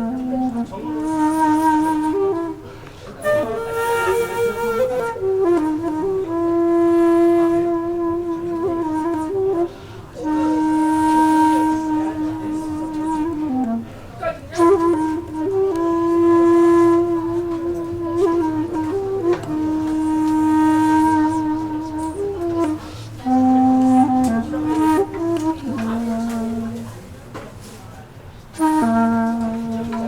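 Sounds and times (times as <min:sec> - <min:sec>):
solo flute slow melody: 0:00.0 - 0:30.0.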